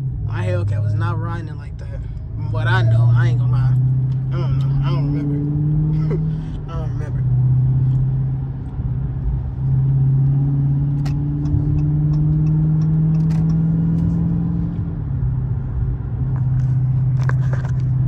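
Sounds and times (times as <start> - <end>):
car engine drone from cabin: 0.0 - 18.0.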